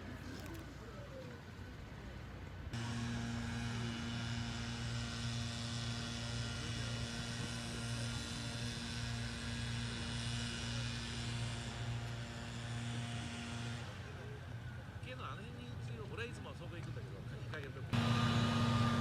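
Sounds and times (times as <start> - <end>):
steady machine hum: 1.6 - 15.8, 17.9 - 19.0.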